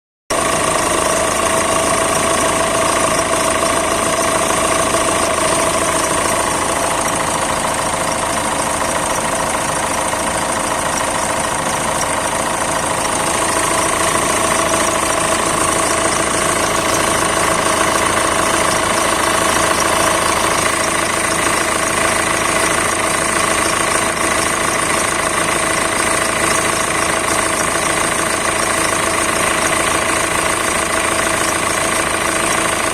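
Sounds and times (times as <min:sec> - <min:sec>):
diesel engine idling: 0:00.3 - 0:32.9.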